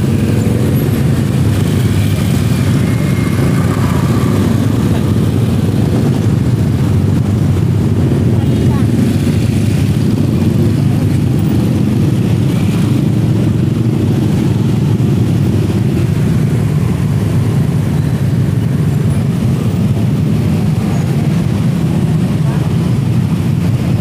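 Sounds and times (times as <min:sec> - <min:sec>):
traffic engines rumbling: 0:00.0 - 0:24.0.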